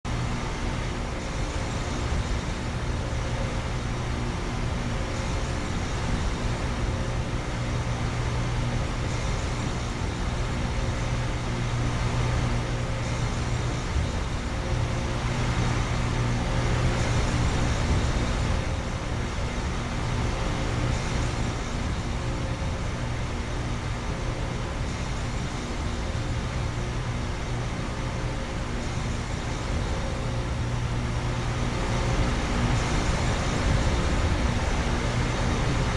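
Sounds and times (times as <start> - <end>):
compressor hum: 0.1 - 35.9
condenser fans rushing: 0.1 - 35.9.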